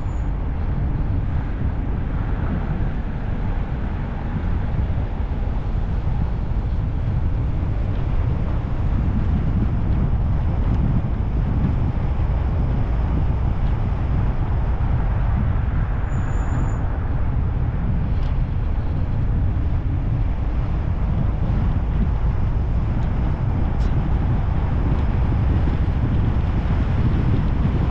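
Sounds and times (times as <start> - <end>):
car engine and tyres rumbling: 0.0 - 27.9.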